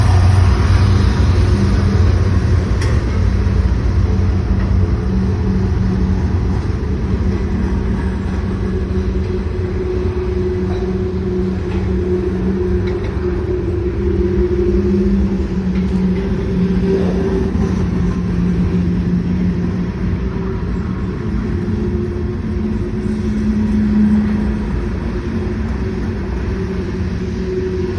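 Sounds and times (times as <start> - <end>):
diesel locomotives rumbling: 0.0 - 27.9.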